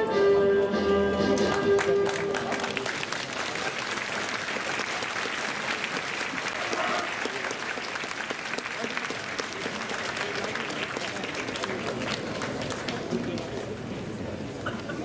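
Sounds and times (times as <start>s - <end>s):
crowd applauding: 1.4s - 13.8s.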